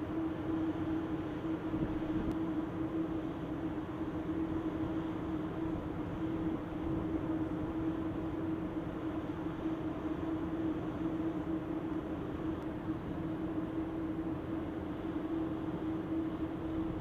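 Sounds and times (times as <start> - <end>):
steady machinery hum: 0.0 - 17.0.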